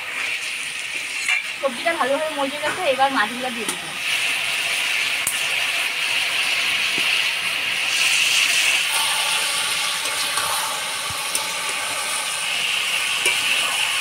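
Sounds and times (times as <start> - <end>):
curry sizzling in a pan: 0.0 - 14.0.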